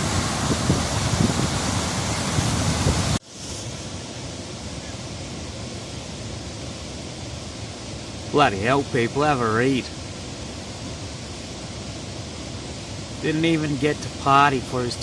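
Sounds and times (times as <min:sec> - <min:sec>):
steady hiss: 0:00.0 - 0:15.0
waterfall rushing: 0:00.0 - 0:15.0.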